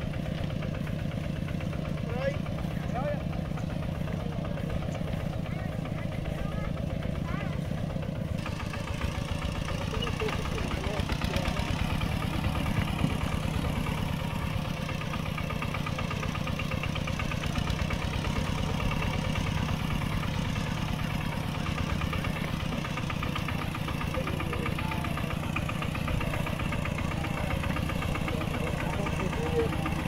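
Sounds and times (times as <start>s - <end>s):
tractor engine chugging: 0.0s - 30.0s.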